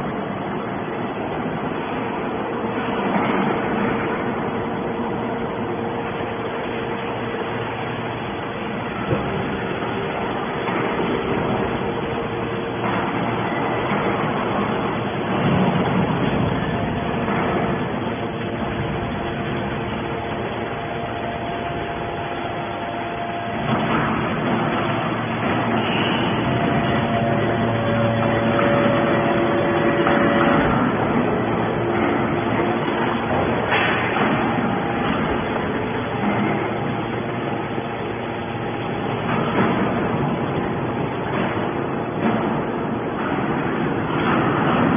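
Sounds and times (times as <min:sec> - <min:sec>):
baler machine hum and hiss: 0:00.0 - 0:44.9.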